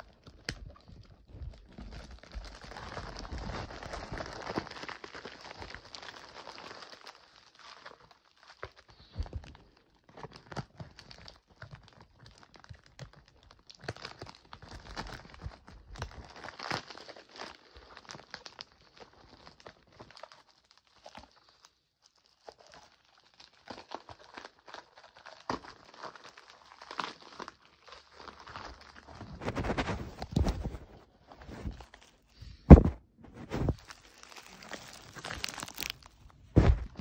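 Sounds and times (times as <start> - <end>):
packaging crinkling: 0.0 - 37.0.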